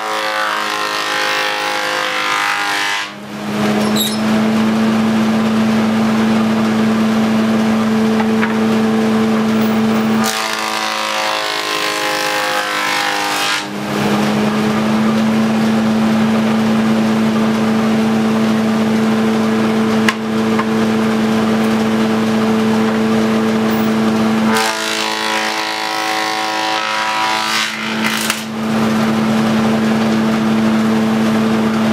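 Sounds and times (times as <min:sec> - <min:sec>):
board being planed: 0:00.0 - 0:31.9
thickness planer whining: 0:00.0 - 0:31.9.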